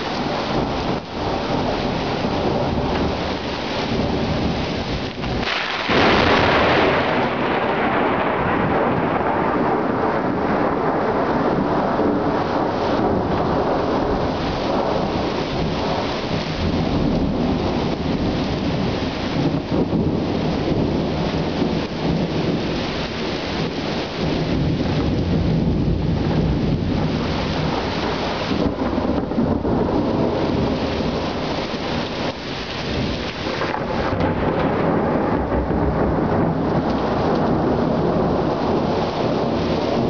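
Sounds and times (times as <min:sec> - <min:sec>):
heavy rain falling: 0:00.0 - 0:40.0
thunder rumbling: 0:00.0 - 0:40.0.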